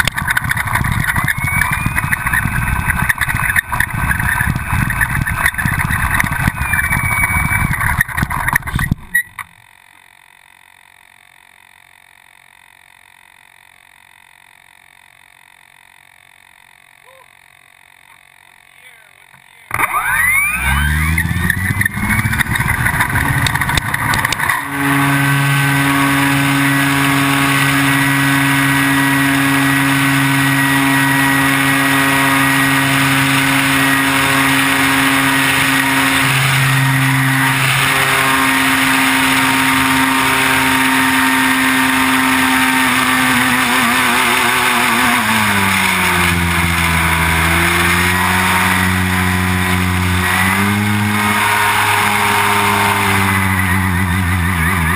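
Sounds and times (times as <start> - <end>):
wheels rattling over asphalt: 0.0 - 9.6, 19.7 - 54.9
electric motor whine: 0.0 - 54.9.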